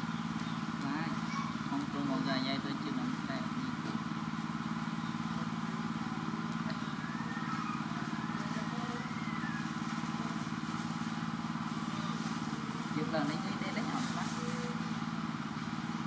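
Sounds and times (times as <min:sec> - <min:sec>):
small engine droning: 0:00.0 - 0:16.0.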